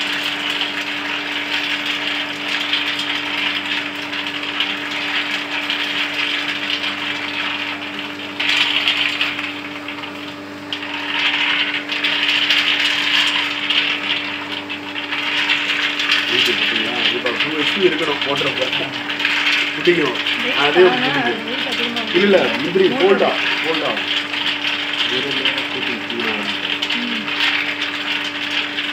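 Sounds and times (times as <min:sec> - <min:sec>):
machine drive hum: 0:00.0 - 0:28.9
nuts rattling in rotating metal pan: 0:00.0 - 0:28.9.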